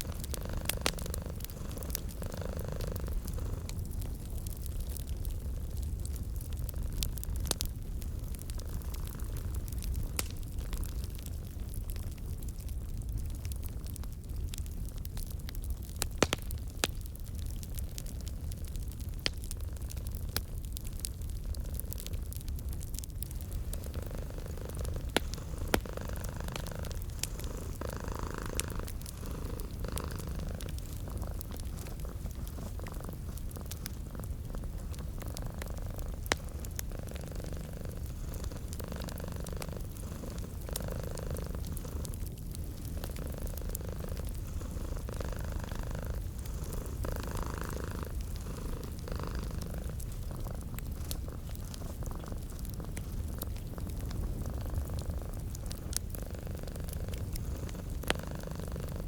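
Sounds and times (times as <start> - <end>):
cat purring: 0.0 - 16.0, 16.8 - 59.0
wood fire crackling and popping: 0.0 - 59.0.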